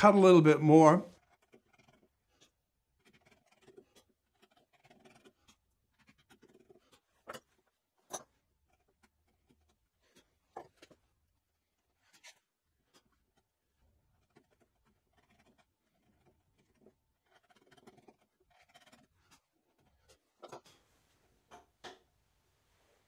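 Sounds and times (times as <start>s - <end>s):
chisel scraping wood: 1.1s - 20.9s.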